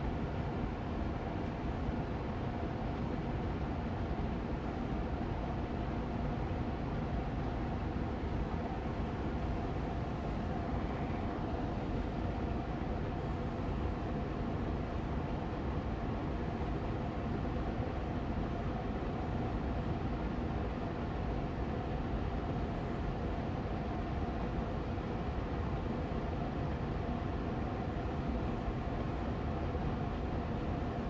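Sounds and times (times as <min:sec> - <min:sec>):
air purifier fan running: 0:00.0 - 0:31.0.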